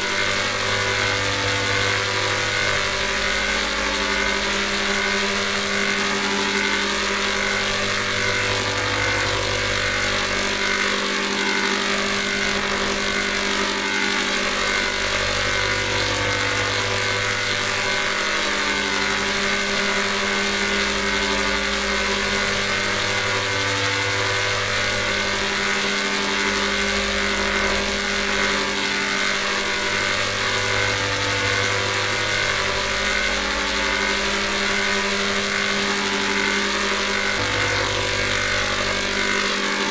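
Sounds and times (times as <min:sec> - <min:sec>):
distorted electronic drone: 0:00.0 - 0:39.9
low hum: 0:00.0 - 0:39.9.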